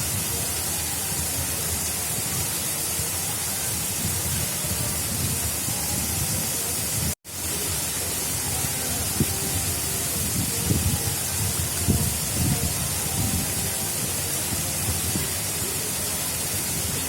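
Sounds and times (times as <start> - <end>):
water rushing steadily: 0.0 - 17.0.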